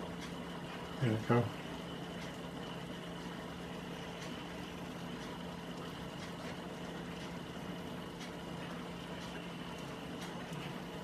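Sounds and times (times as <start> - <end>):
pressure cooker low hum: 0.0 - 11.0.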